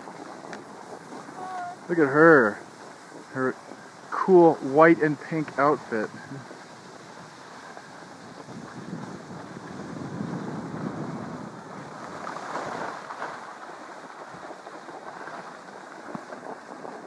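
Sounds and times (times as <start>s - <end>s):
skis scraping over snow: 0.0s - 17.0s
wind on microphone: 0.0s - 17.0s.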